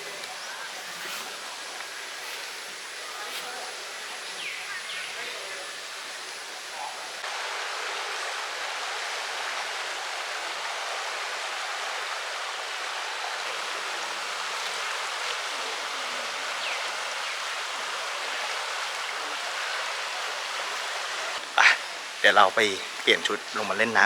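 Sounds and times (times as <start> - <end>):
shallow stream flowing: 0.0 - 24.0.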